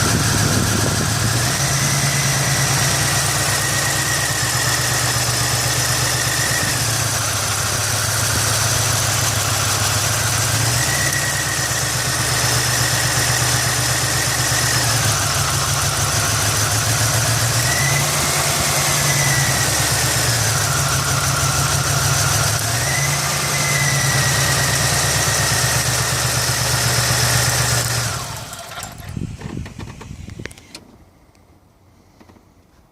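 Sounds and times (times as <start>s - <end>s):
car engine idling: 0.0s - 32.2s.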